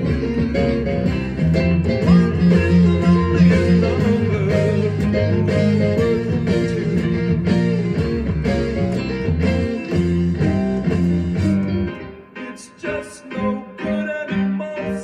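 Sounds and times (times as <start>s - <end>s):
electronic keyboard music: 0.0s - 15.0s.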